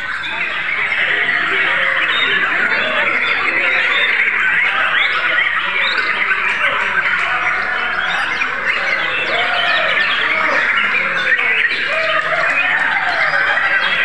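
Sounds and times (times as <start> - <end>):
many birds singing: 0.0 - 14.0.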